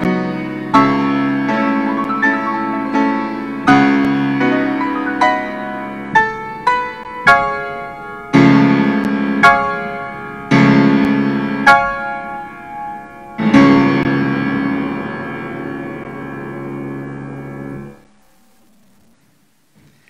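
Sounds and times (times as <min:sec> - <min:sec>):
slow solo piano: 0:00.0 - 0:19.1.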